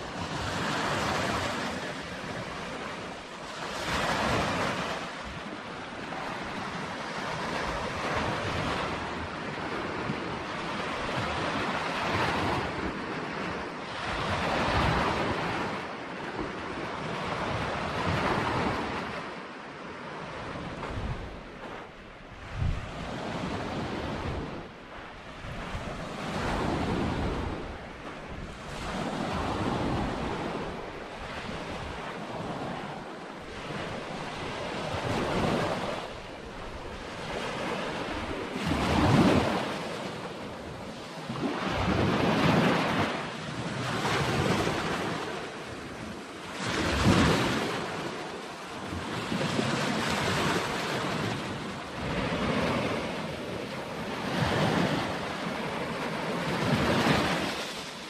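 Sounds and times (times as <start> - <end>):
waves washing onto beach: 0.0 - 58.0
wind buffeting microphone: 0.0 - 58.0.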